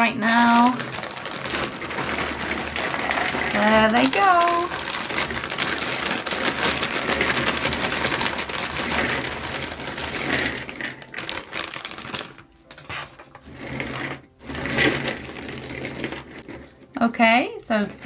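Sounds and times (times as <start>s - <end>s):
puzzle pieces clattering on table: 0.0s - 17.0s.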